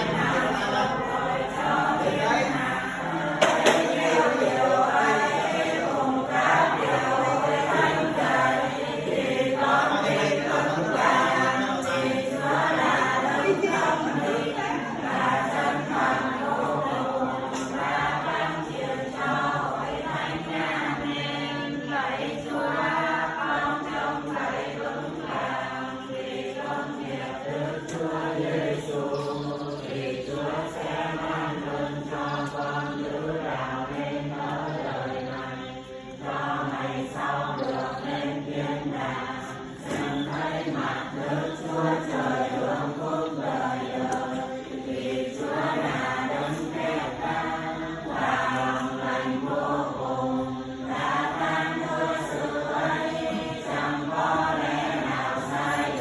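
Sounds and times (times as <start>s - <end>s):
group chanting prayers in unison: 0.0s - 56.0s.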